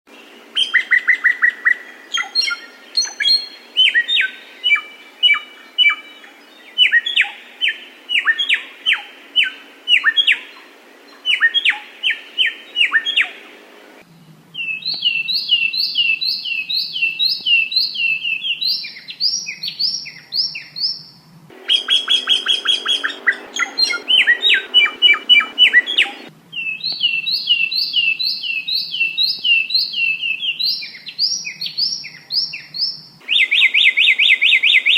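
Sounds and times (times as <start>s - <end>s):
songbird chirps and trills: 0.1s - 34.9s
songbird high rising-and-falling notes: 0.1s - 34.9s.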